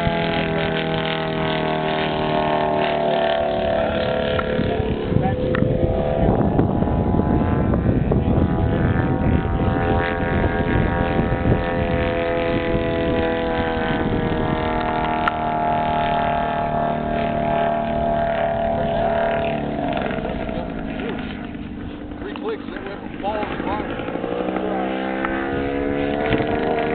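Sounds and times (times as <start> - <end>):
model plane engine droning: 0.0 - 26.9.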